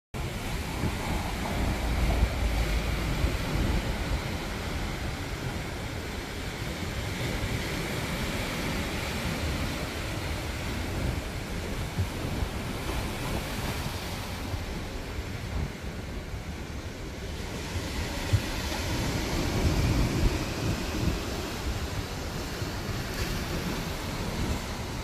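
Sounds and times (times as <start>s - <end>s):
wind buffeting microphone: 0.1s - 25.0s.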